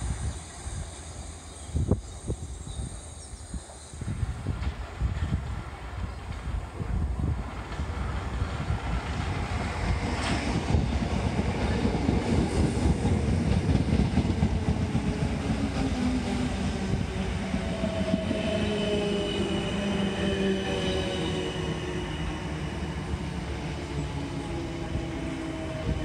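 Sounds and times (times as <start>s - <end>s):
train wheels rumbling on rails: 0.0s - 26.0s
train whining tones: 0.0s - 26.0s.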